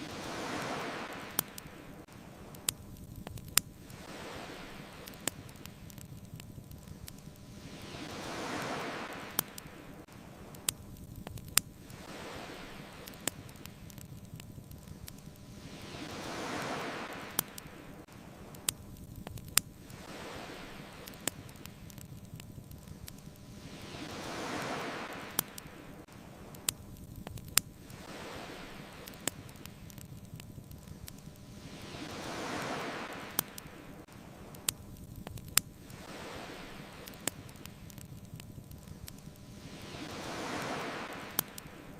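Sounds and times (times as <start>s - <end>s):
fire crackles and pops: 0.0s - 41.9s
ocean waves washing in: 0.0s - 41.9s.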